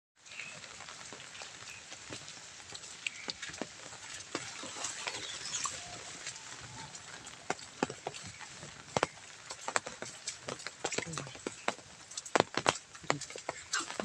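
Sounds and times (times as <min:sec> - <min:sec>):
heavy rain falling: 0:00.2 - 0:14.0.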